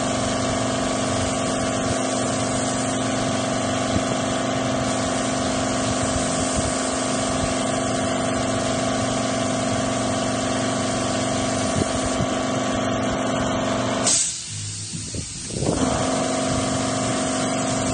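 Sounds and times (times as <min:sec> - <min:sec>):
spray gun hissing: 0:00.0 - 0:12.7, 0:14.0 - 0:17.9
air compressor humming: 0:00.0 - 0:17.9
sharp blast of air: 0:00.1 - 0:17.9.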